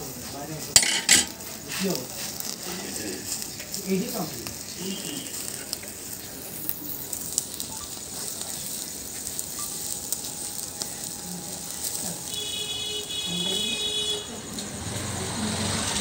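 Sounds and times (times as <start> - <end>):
chicken sizzling over fire: 0.0 - 16.0
fire crackling and popping: 0.0 - 16.0.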